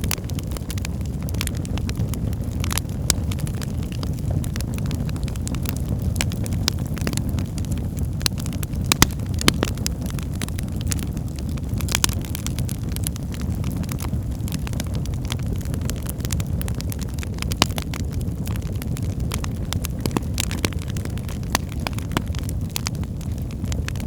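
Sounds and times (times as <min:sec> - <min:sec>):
fire low rumble: 0:00.0 - 0:24.0
wood fire crackling and popping: 0:00.0 - 0:24.0.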